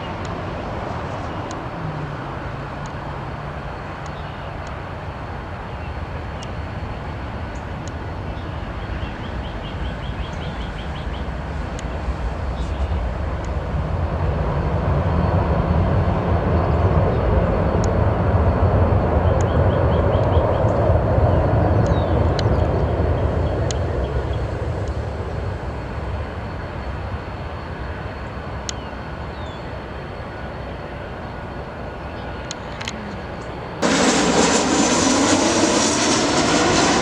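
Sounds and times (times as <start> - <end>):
jet airliner engine roar: 0.0 - 37.0.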